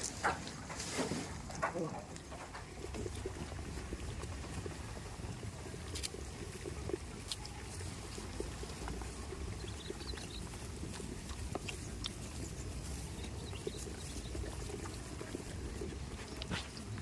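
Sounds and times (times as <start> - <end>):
goats moving about: 0.0 - 17.0.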